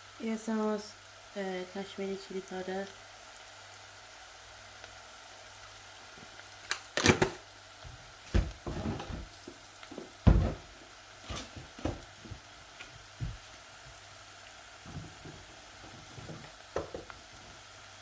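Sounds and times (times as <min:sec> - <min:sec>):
faint sizzle: 0:00.0 - 0:18.0.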